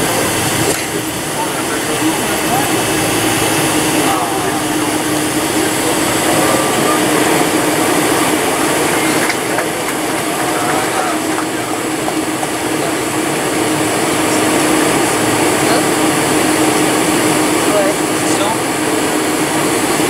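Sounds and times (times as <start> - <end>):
jet engines at low power: 0.0 - 20.0.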